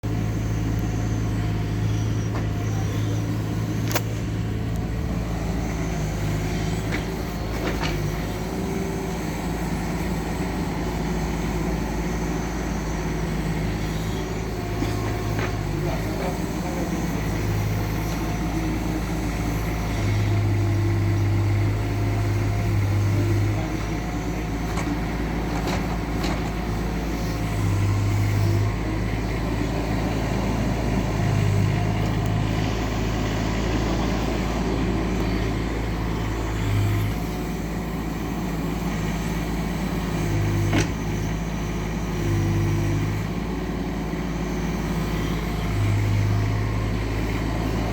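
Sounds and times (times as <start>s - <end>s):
mini excavator diesel engine: 0.0s - 47.9s.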